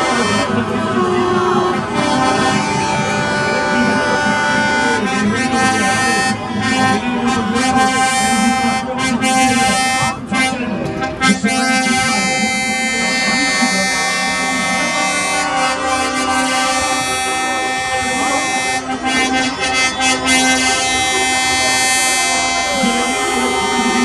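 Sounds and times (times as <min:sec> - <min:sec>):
truck air horns blaring: 0:00.0 - 0:24.0.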